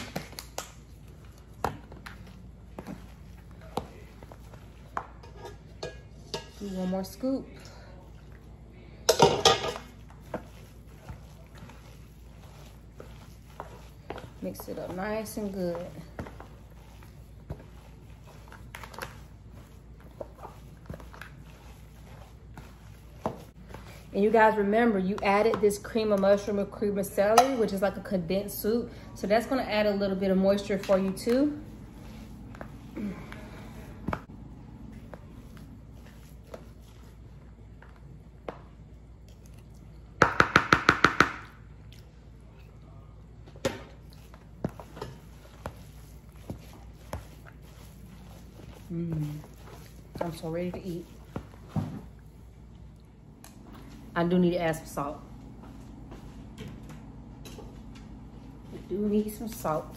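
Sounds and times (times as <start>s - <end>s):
wet squishing stirring: 0.0s - 59.9s.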